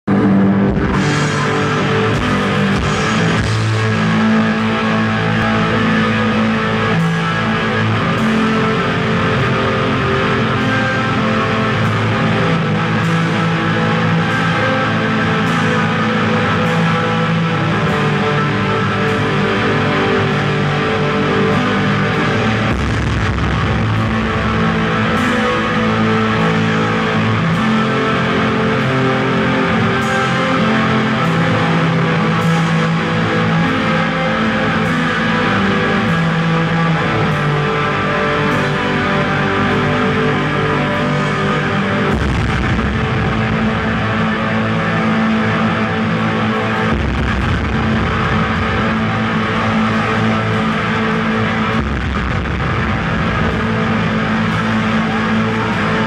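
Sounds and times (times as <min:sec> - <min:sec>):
distorted electric guitar: 0:00.0 - 0:56.0
drum kit: 0:00.1 - 0:56.0.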